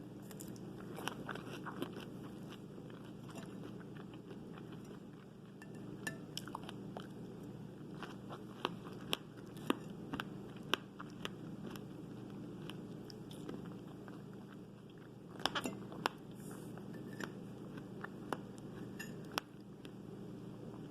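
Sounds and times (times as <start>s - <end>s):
crunchy fruit chewing: 0.1s - 5.6s, 6.4s - 20.0s.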